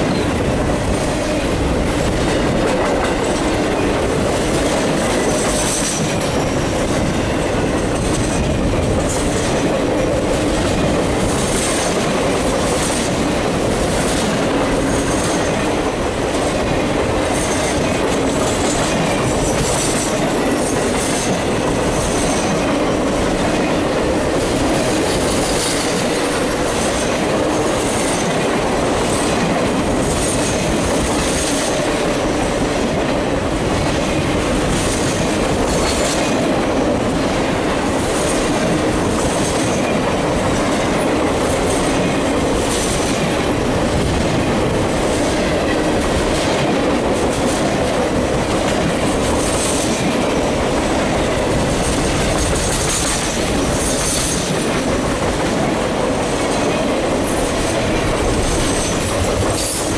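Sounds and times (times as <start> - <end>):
steel wheels rumbling on rail: 0.0 - 59.9
wheels clicking over rail joints: 0.0 - 59.9.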